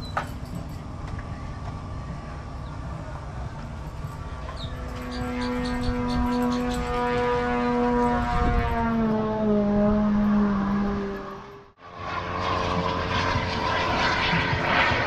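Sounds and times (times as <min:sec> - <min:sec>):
model aircraft engine running: 0:00.0 - 0:15.0
propeller noise: 0:00.0 - 0:15.0.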